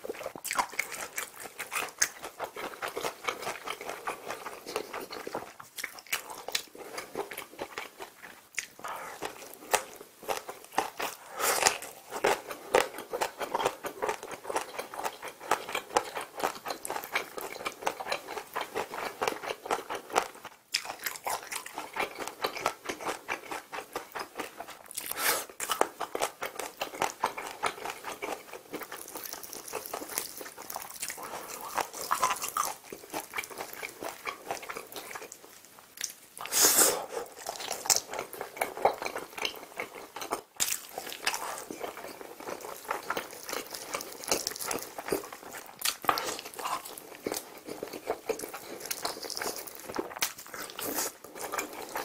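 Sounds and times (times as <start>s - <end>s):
crunchy chewing of fried chicken: 0.0s - 52.0s.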